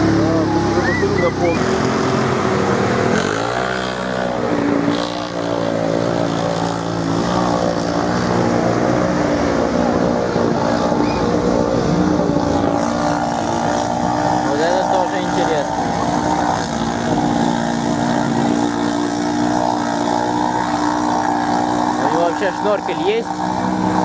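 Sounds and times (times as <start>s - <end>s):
engines revving: 0.0s - 24.0s
steady low engine note: 0.0s - 24.0s.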